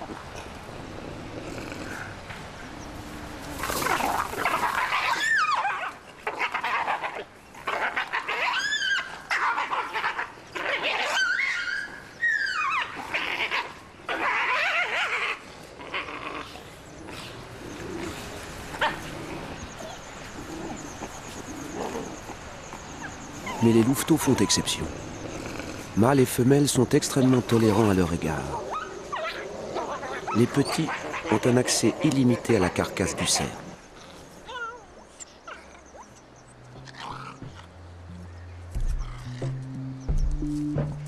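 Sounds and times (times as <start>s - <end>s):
wolves snarling and yelping: 0.0s - 26.0s, 27.0s - 38.0s.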